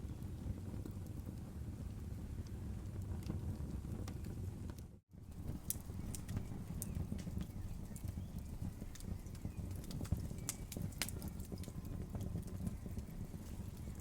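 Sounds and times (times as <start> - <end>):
burning wood crackling and popping: 0.0 - 14.0
campfire flame rumble: 0.0 - 14.0.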